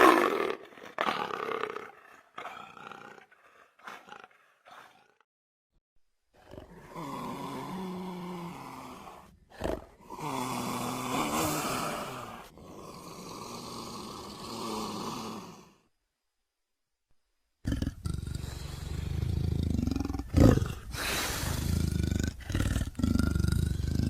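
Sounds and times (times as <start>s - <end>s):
creature rasping growl: 0.0s - 5.3s, 6.4s - 15.8s, 17.6s - 24.0s.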